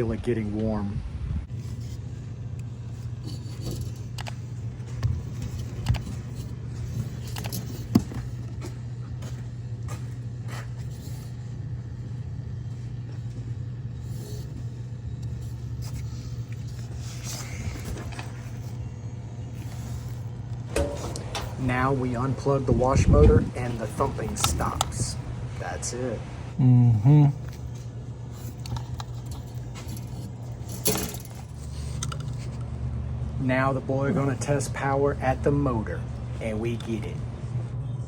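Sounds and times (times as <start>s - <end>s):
motor humming: 1.5s - 33.3s.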